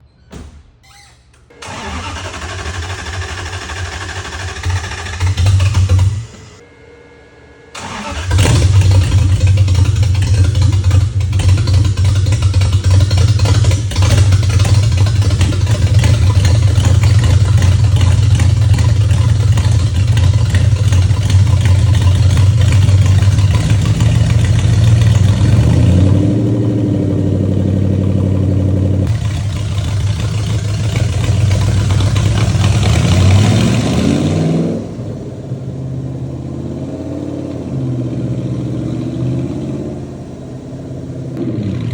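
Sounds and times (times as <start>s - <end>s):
car engine idling and revving: 1.6s - 41.9s.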